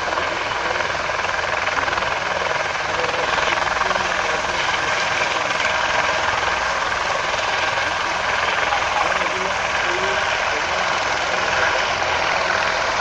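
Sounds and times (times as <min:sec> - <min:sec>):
helicopters lifting off: 0:00.0 - 0:13.0.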